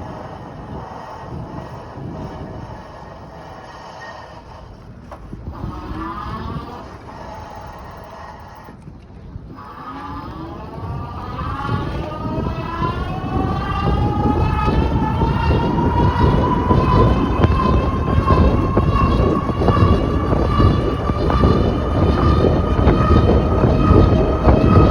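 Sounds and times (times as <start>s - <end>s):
electric bike motor whining: 0.0s - 24.9s
low wind: 0.0s - 24.9s
road rumble: 0.0s - 24.9s.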